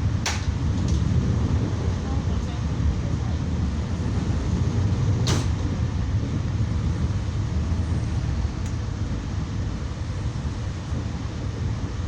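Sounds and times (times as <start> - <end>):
train rumbling inside passenger car: 0.0 - 12.0.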